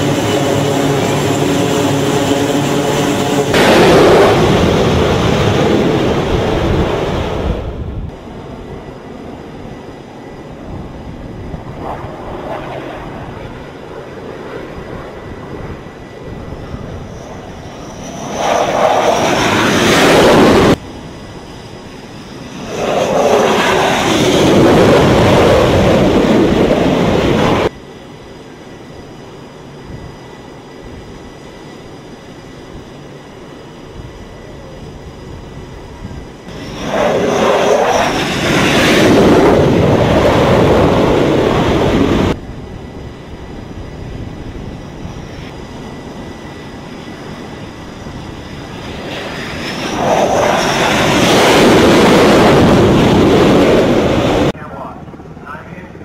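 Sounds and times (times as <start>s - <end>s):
wind noise: 0.0s - 55.4s
jet aircraft passing low: 0.0s - 56.0s.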